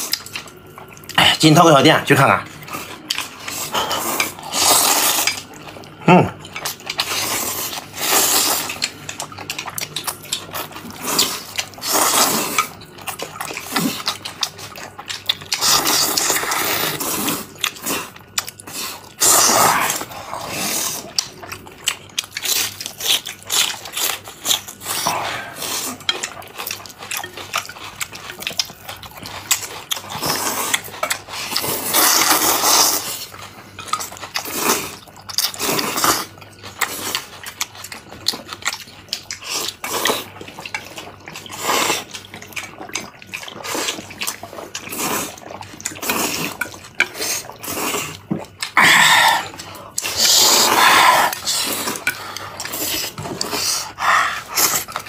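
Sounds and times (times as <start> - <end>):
gulping a drink: 0.0 - 35.3, 38.8 - 55.0
people slurping noodles: 2.7 - 21.7, 22.3 - 26.4, 28.8 - 33.4, 34.0 - 37.3, 39.4 - 55.0.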